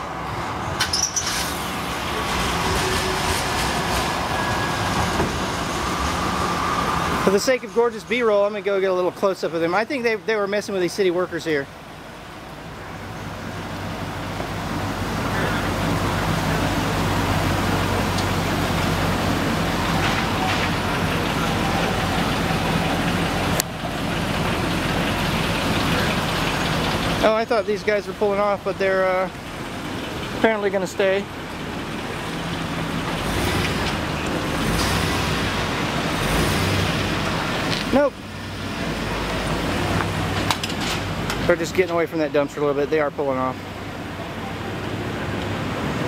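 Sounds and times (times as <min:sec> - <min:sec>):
light-rail train rumbling past: 0:00.0 - 0:08.2, 0:11.9 - 0:41.7
city street traffic: 0:00.0 - 0:46.0.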